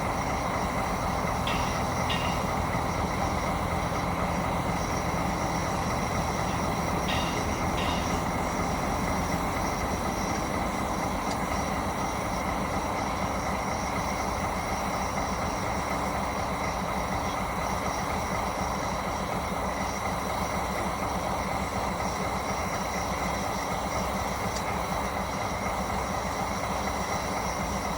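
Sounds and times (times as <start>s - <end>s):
diesel locomotive engine running: 0.0s - 27.9s.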